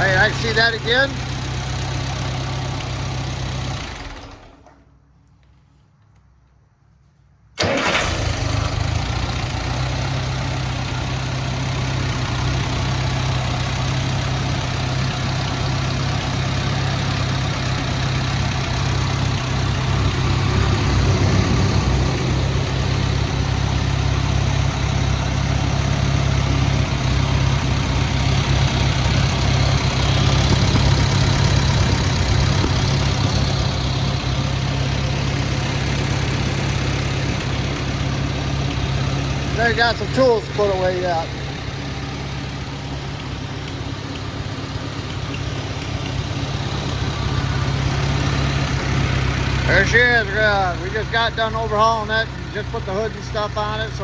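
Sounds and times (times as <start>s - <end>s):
tractor engine idling: 0.0s - 4.9s, 7.6s - 54.0s.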